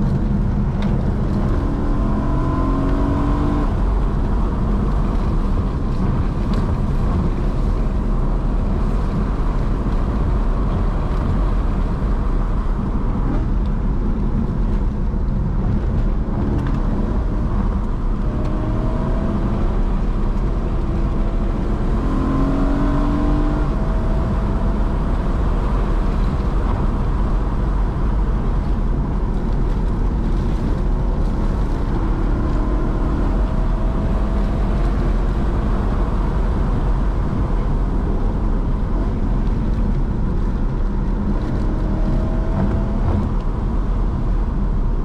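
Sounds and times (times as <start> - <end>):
car engine at speed: 0.0 - 45.0
road and wind noise: 0.0 - 45.0.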